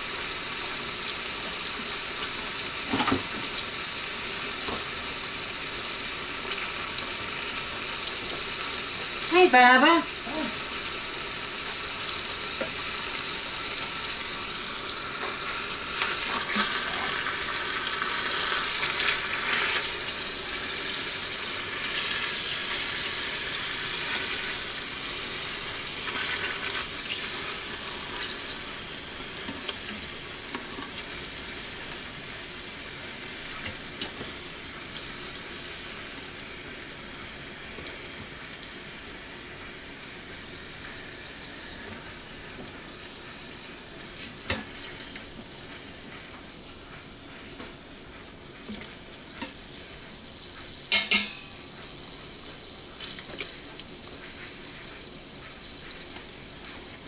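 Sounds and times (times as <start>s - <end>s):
chicken sizzling with pops: 0.0s - 57.0s.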